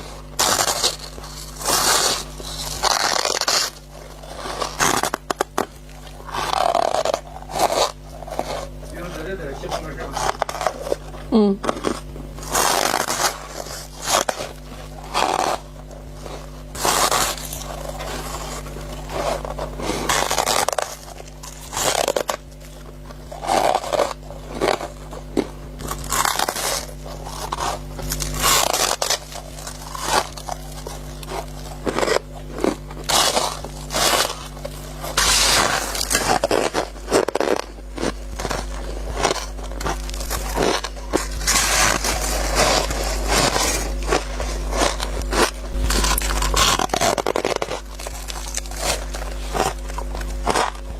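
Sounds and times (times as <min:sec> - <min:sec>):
chewing crunchy ice: 0:00.0 - 0:50.9.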